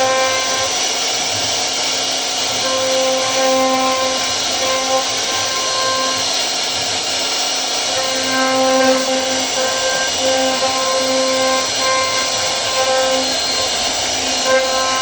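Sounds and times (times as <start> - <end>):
router spindle cutting wood: 0.0 - 15.0.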